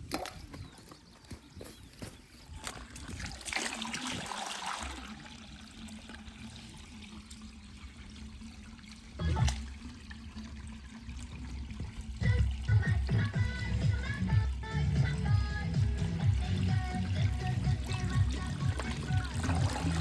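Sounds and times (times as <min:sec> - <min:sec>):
water trickling and splashing: 0:00.0 - 0:01.5, 0:02.3 - 0:20.0.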